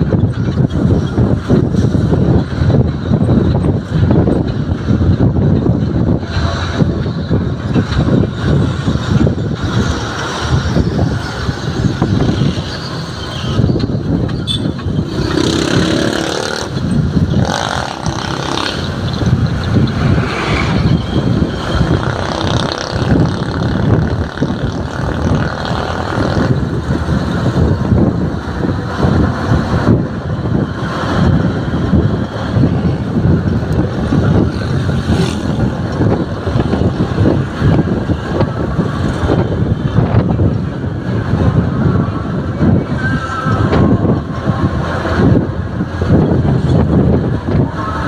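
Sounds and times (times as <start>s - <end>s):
truck engine: 0.0s - 48.0s
wind buffeting microphone: 0.0s - 48.0s.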